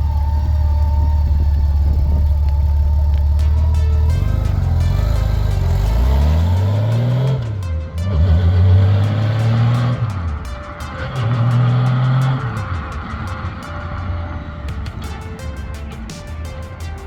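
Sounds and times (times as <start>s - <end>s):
motorcycle engine revving: 0.0s - 15.3s.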